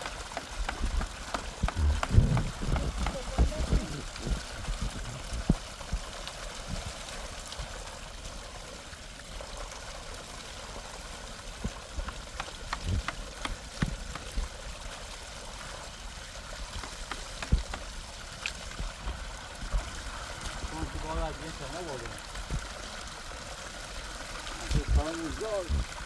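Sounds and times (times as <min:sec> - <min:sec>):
water pouring: 0:00.0 - 0:26.0.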